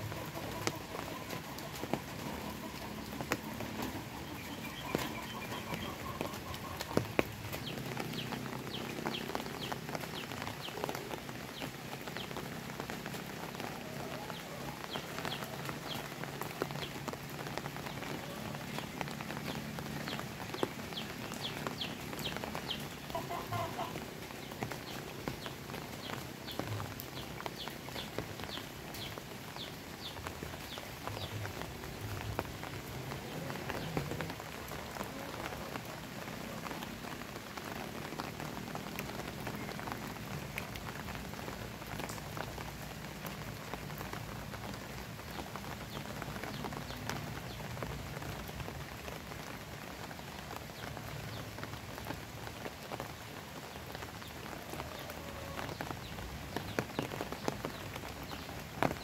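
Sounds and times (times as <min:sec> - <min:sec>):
rain pattering on pavement and plants: 0:00.0 - 0:59.0.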